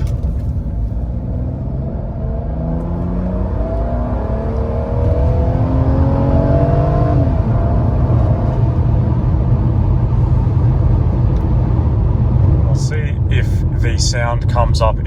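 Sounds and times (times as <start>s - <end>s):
car engine revving: 0.0s - 14.9s
road and wind rumble: 0.0s - 15.0s.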